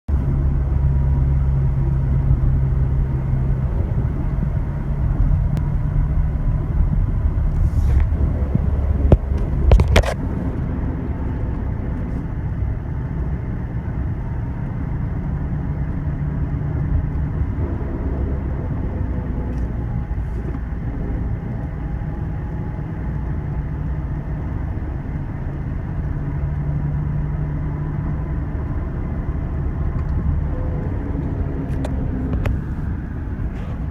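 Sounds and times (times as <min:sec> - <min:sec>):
truck engine and road rumble: 0:00.0 - 0:33.9.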